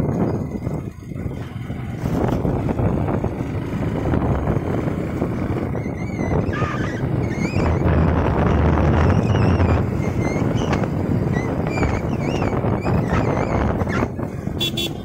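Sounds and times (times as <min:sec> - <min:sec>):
wind buffeting microphone: 0:00.0 - 0:14.9
motorcycle engine running: 0:00.0 - 0:15.0.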